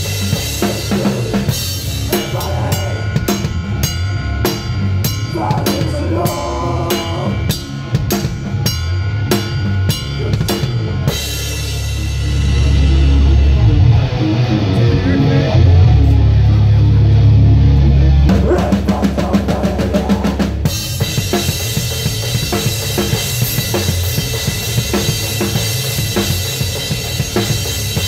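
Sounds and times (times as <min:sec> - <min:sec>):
live rock band: 0:00.0 - 0:28.0.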